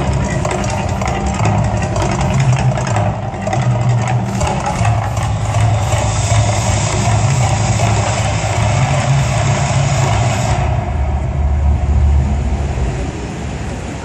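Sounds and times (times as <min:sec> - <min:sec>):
gas flame jets hissing: 0:00.0 - 0:11.3
deep rumble: 0:00.0 - 0:14.0.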